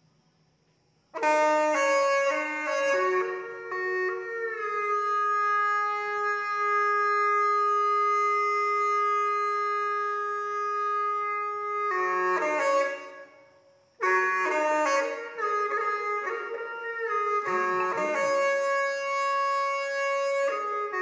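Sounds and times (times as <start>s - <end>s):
wind instrument notes: 1.2s - 21.0s.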